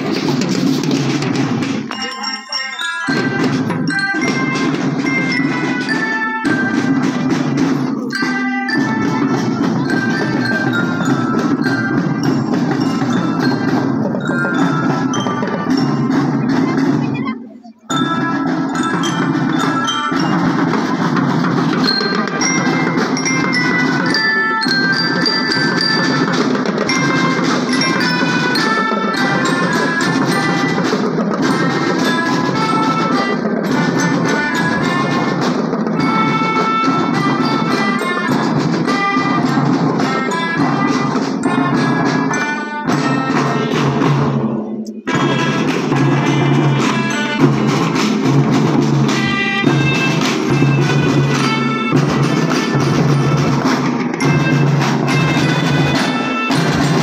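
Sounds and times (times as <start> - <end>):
snare drums: 0.0 - 57.0
bell lyres and melodicas melody: 0.1 - 57.0.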